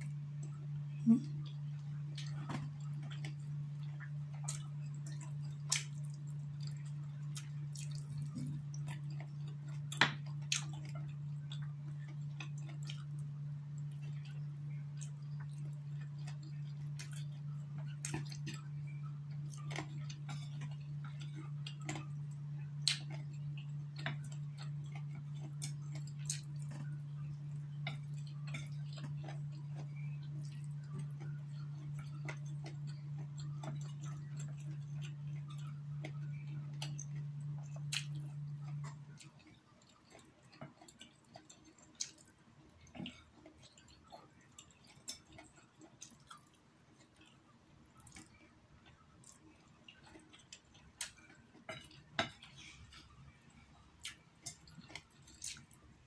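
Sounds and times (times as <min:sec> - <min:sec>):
chewing: 0:00.0 - 0:56.0
steady low hum: 0:00.0 - 0:56.0.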